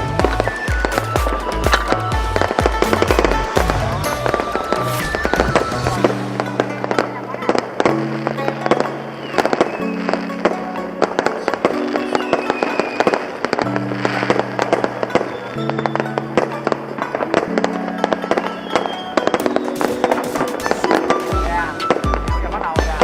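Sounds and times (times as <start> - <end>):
firework whistle: 0.0 - 8.0, 8.6 - 10.4, 11.6 - 22.7
background music with held chords: 0.0 - 23.0
fireworks popping and banging: 0.0 - 23.0.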